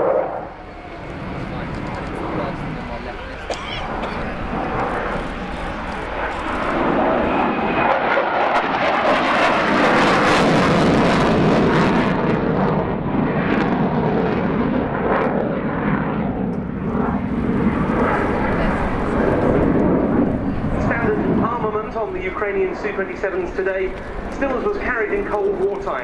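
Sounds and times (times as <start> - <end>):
fighter jet passing with crackle: 0.0 - 26.0.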